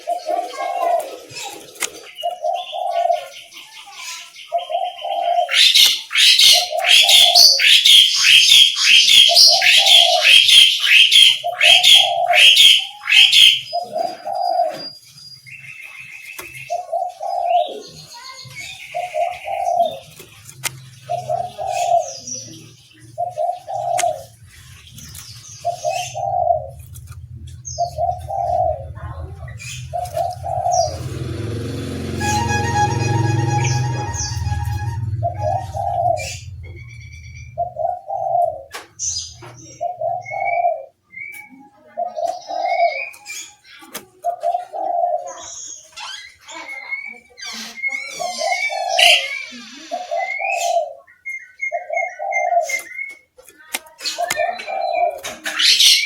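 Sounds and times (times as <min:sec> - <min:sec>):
dove cooing: 0:00.0 - 0:15.0, 0:16.4 - 0:46.7, 0:47.8 - 0:53.1, 0:54.1 - 0:56.0
songbird chirping rapidly: 0:00.0 - 0:53.4.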